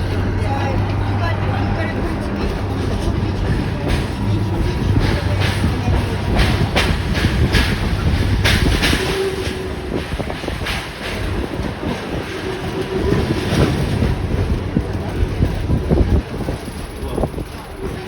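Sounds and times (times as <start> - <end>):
train low rumble: 0.0 - 18.0
wheels clacking over rail joints: 0.0 - 18.0.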